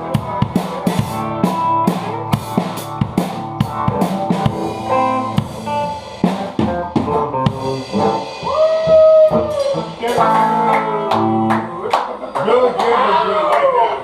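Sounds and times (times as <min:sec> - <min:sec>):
drum kit snare and bass drum: 0:00.0 - 0:11.5
rock band playing: 0:00.0 - 0:12.6.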